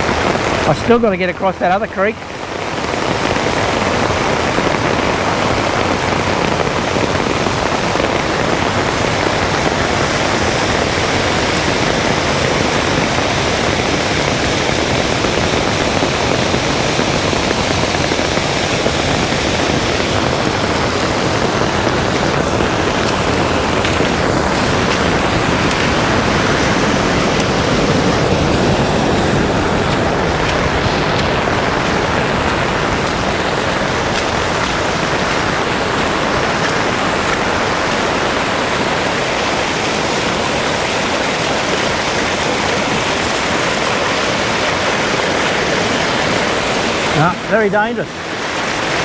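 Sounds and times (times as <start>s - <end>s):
creek water rushing: 0.0s - 49.0s.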